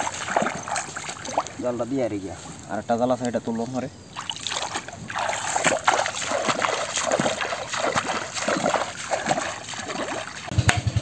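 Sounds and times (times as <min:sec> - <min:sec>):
footsteps wading through muddy water: 0:00.0 - 0:11.0.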